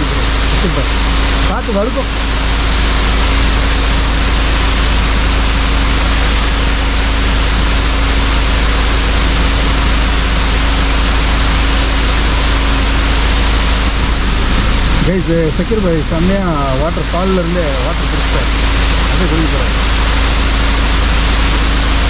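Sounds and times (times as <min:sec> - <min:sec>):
low hum: 0:00.0 - 0:22.0
waterfall rushing: 0:00.0 - 0:22.0.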